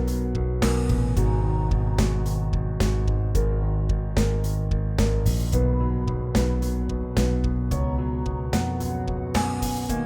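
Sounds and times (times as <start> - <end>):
background beat music with bass: 0.0 - 10.0.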